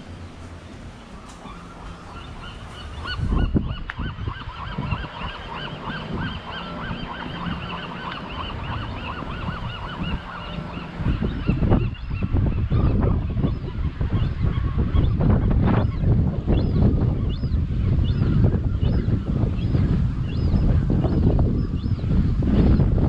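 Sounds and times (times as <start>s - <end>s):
seabirds calling: 0.0s - 23.0s
wind buffeting microphone: 0.0s - 23.0s.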